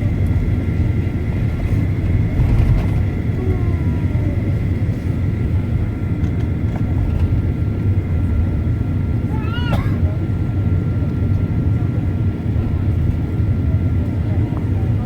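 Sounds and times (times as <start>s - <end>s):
airplane cabin engine rumble: 0.0s - 15.0s
thin steady engine whines: 0.0s - 15.0s.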